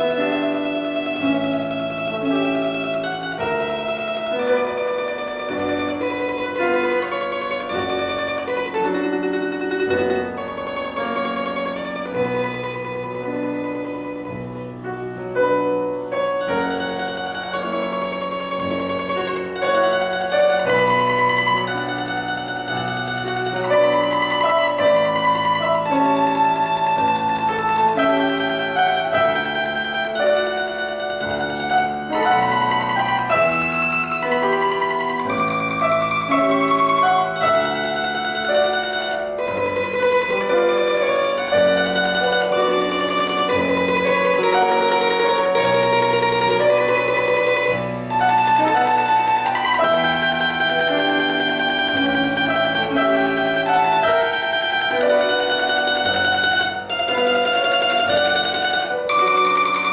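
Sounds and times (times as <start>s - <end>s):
lower accompaniment: 0.0s - 59.9s
plucked string melody: 0.0s - 59.9s.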